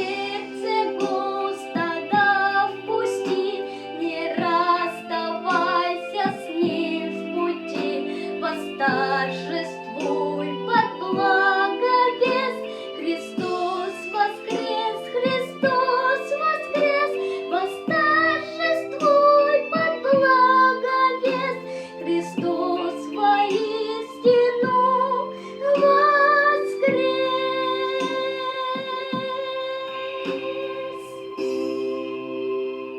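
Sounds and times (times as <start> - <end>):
person singing: 0.0 - 32.9.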